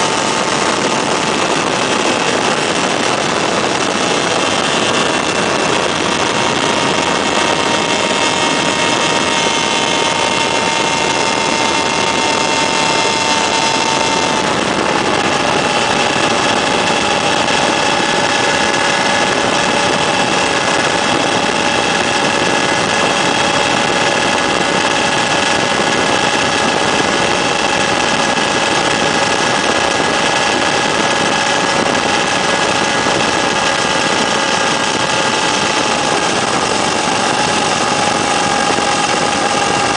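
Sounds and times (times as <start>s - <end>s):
small aircraft engine and propeller: 0.0s - 39.9s.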